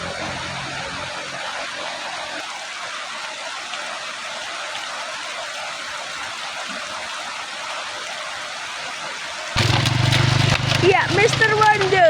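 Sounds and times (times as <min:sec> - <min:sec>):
rushing flowing water: 0:00.0 - 0:12.0.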